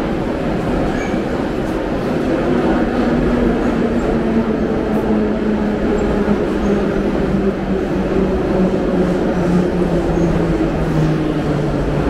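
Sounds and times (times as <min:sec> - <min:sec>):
metro train pulling in: 0:00.0 - 0:12.0.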